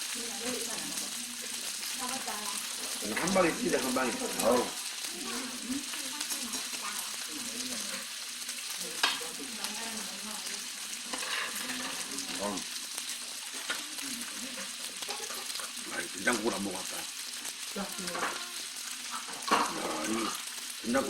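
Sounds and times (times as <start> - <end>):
food sizzling on a hot plate: 0.0 - 21.0
faint background voices: 0.1 - 17.1, 19.3 - 21.0.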